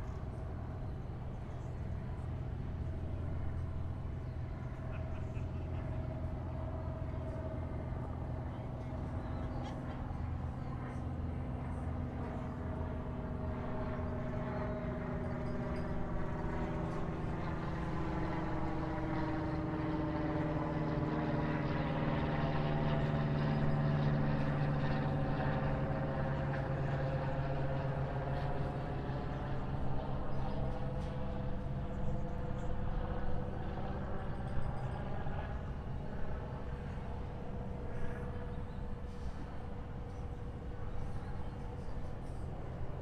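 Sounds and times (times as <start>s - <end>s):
passing powered craft engine drone: 0.0s - 43.0s.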